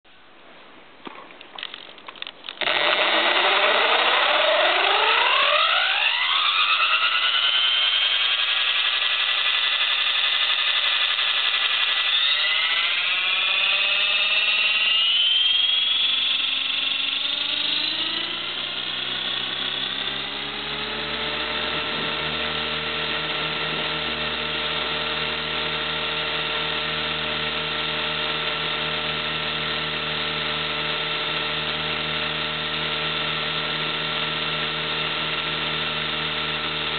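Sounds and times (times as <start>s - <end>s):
model helicopter motor whine: 1.6s - 36.9s.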